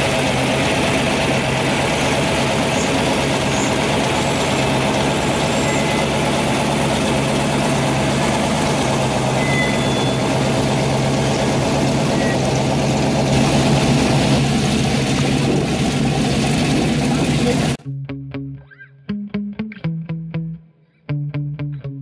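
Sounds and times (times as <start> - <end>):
supercharged engine idling: 0.0 - 17.8.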